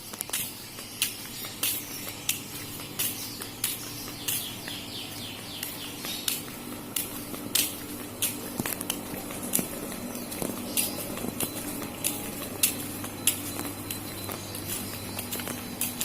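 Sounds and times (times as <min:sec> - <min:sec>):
footsteps walking: 0:00.0 - 0:16.0.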